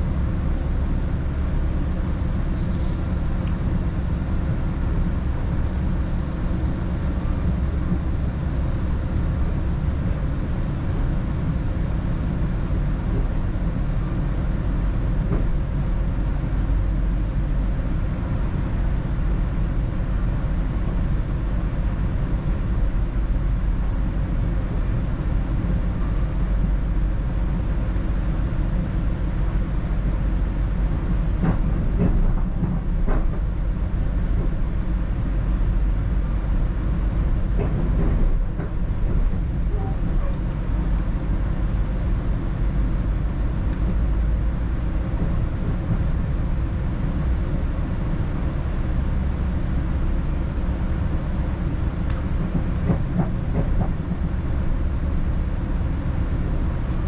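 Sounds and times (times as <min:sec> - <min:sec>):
train rumble from inside coach: 0:00.0 - 0:57.0.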